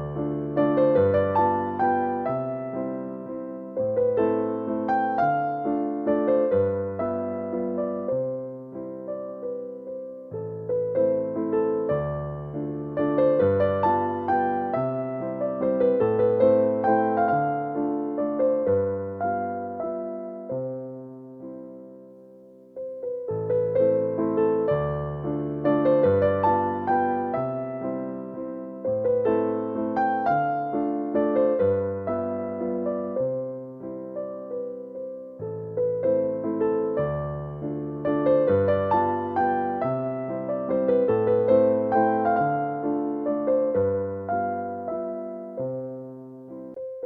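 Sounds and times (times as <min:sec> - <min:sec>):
gentle piano music: 0:00.0 - 0:47.0.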